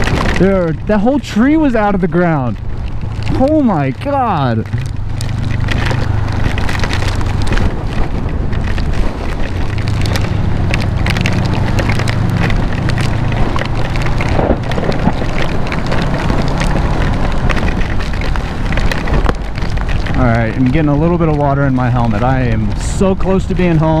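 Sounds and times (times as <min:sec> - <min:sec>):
motorcycle engine drone: 0:00.0 - 0:24.0
rain hitting microphone: 0:00.0 - 0:24.0
wind rushing over microphone: 0:00.0 - 0:24.0.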